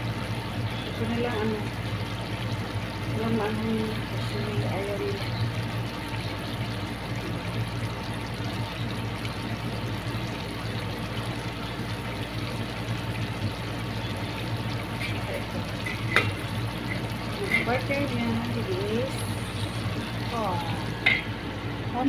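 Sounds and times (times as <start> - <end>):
sauce bubbling in a pot: 0.0 - 22.0
steady low hum: 0.0 - 22.0.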